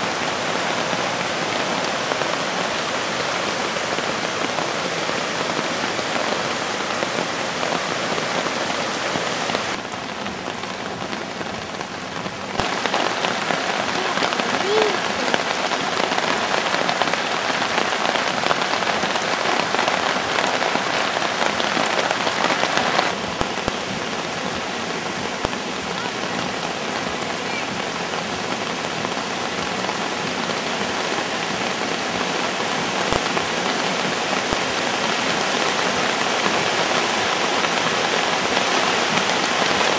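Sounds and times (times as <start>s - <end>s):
flooded creek rushing: 0.0s - 39.9s.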